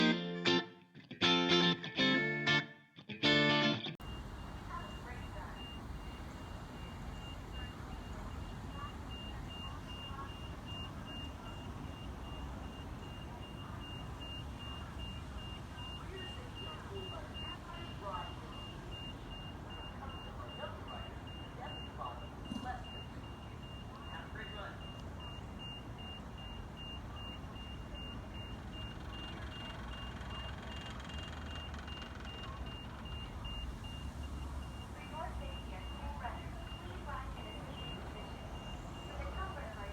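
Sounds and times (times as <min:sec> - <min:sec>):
electronic warning beeper: 0:04.0 - 0:30.9, 0:34.7 - 0:39.9.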